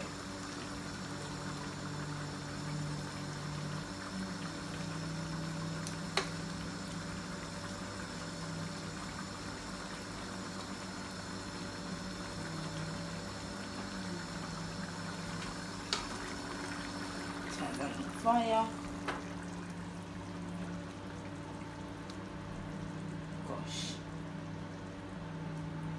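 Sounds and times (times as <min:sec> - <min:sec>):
sauce bubbling in a pan: 0:00.0 - 0:25.5
low steady hum: 0:00.0 - 0:25.9.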